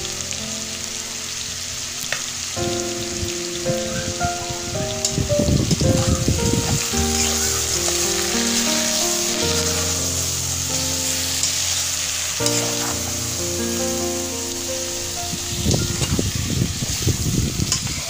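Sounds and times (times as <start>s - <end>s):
background music of held notes: 0.0s - 17.9s
chicken sizzling in a pot: 0.0s - 18.0s.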